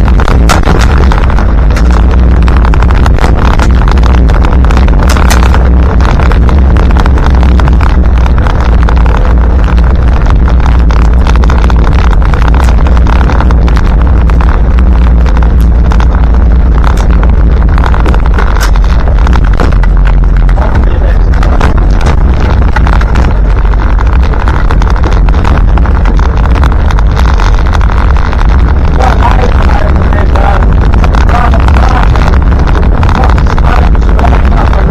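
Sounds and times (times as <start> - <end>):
diesel engine running inside cab: 0.0 - 34.9.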